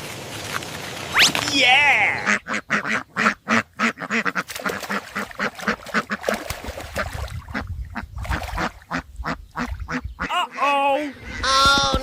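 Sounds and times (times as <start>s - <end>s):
ducks quacking: 2.0s - 12.0s.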